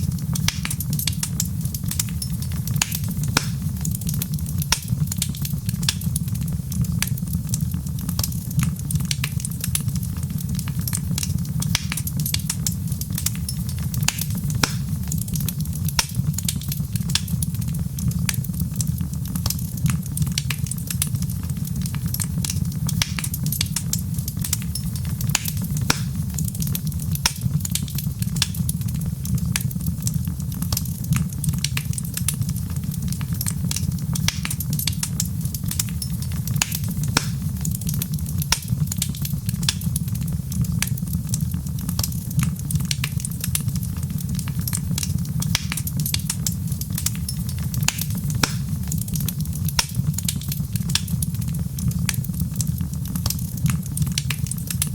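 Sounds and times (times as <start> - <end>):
fire pops and snaps: 0.0 - 54.9
low fire rumble: 0.0 - 54.9
wood fire crackling: 0.0 - 54.9.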